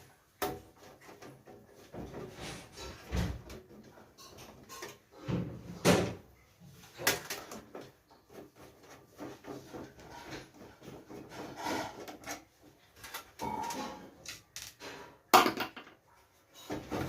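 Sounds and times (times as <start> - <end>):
light rubbing and scraping: 0.7 - 5.8, 6.6 - 15.3.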